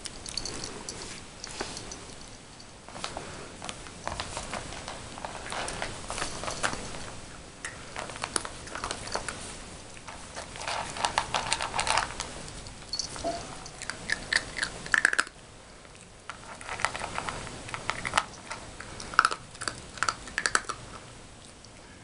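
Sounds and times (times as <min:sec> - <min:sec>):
puppy crunching dry kibble: 0:00.0 - 0:21.8.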